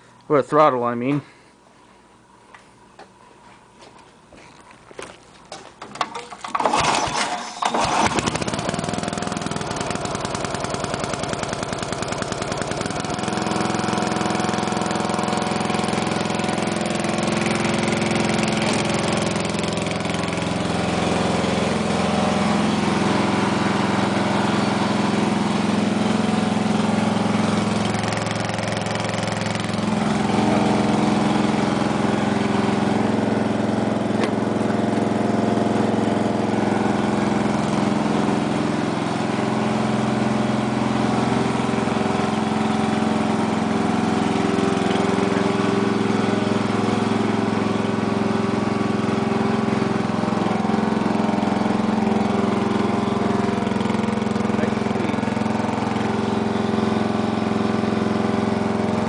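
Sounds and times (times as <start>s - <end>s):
lawn tractor engine running: 4.8s - 59.0s
pull rope starting: 5.8s - 59.0s.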